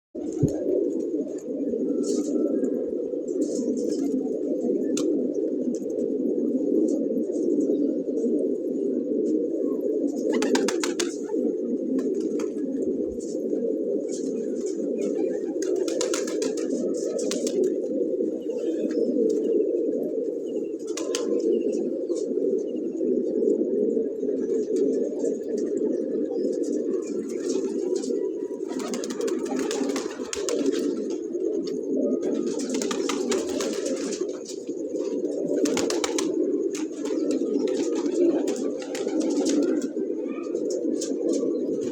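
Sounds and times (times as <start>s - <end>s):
pigeons cooing: 0.2s - 41.9s.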